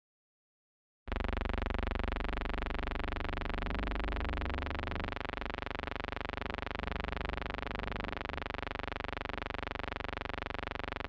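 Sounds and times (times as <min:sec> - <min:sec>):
steady buzz with overtones: 0:01.1 - 0:11.0.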